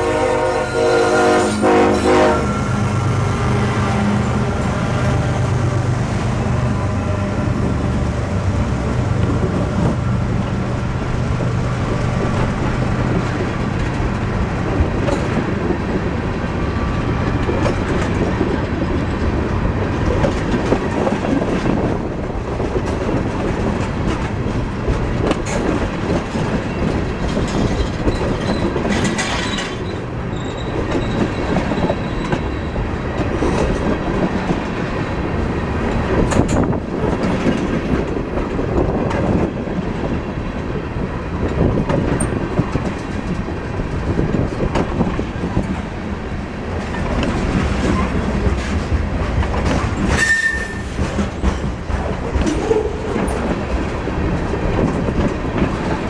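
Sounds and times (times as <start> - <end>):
train wheels clacking on rail joints: 0.0 - 40.1, 41.4 - 56.0.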